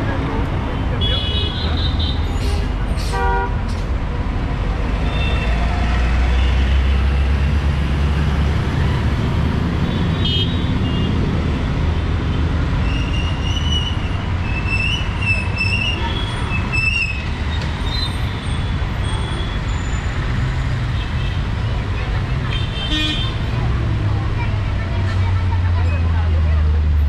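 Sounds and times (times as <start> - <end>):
road traffic rumbling past: 0.0 - 27.0.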